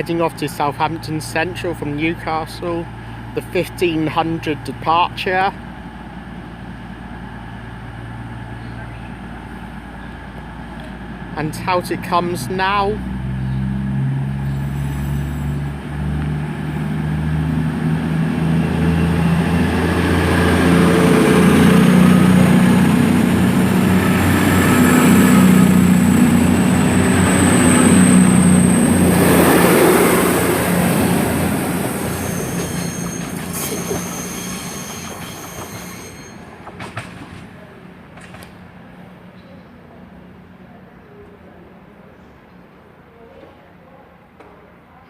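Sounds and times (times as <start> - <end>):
diesel train engines under load: 0.0 - 43.1.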